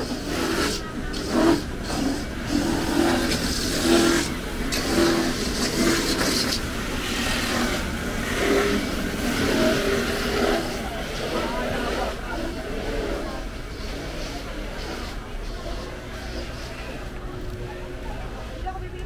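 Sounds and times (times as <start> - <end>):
busy market background din: 0.0 - 19.0.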